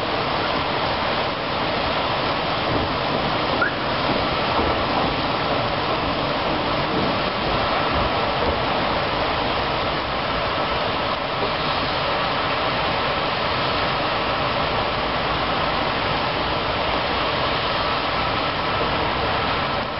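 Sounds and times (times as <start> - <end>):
heavy rain on paving and car: 0.0 - 19.9.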